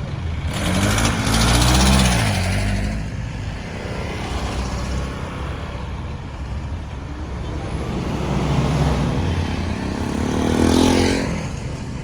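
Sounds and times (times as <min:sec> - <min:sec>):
heavy truck passing: 0:00.0 - 0:12.0
traffic noise: 0:00.0 - 0:12.0.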